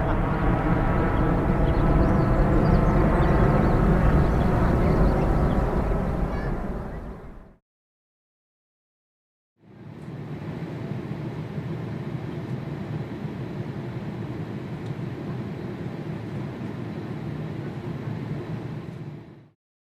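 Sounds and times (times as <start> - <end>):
jet engines rumbling: 0.0 - 7.6, 9.8 - 19.4.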